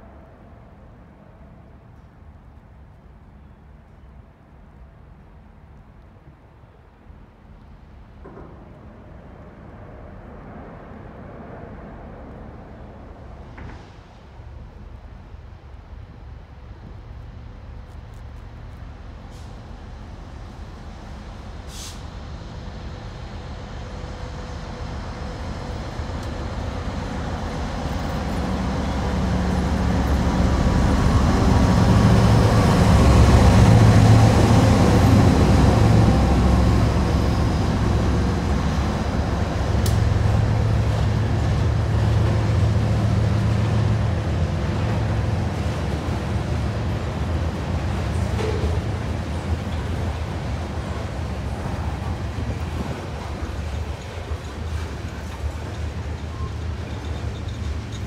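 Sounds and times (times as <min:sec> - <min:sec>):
diesel locomotive engine rumble: 0:00.0 - 0:58.0
freight cars rolling on rails: 0:07.9 - 0:58.0.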